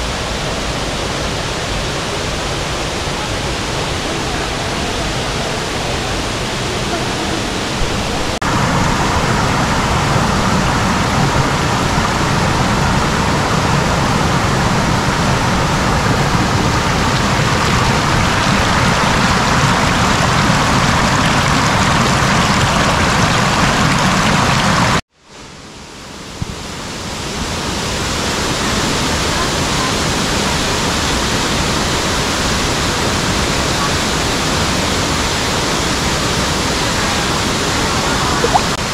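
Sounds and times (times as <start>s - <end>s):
waterfall rushing: 0.0s - 25.0s, 26.2s - 38.9s.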